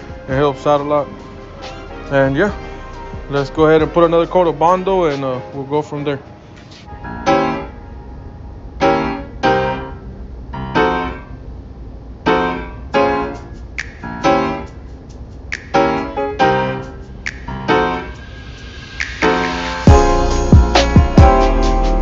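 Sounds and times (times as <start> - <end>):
piano music: 0.0 - 11.5, 12.2 - 22.0.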